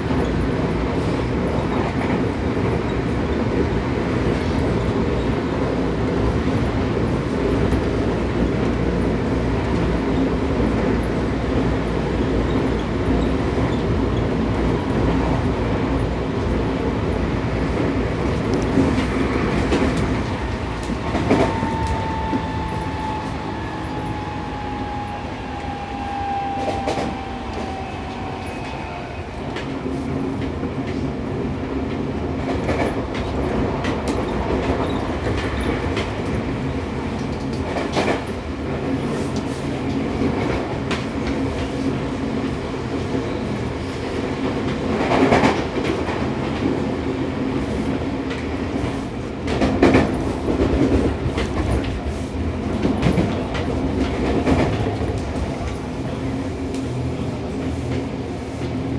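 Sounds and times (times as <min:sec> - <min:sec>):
train interior running noise: 0:00.0 - 0:58.9.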